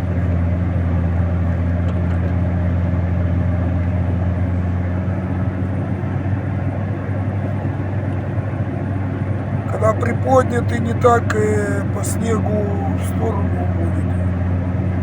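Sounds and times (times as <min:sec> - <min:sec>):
snow-clearing machine engine: 0:00.0 - 0:15.0.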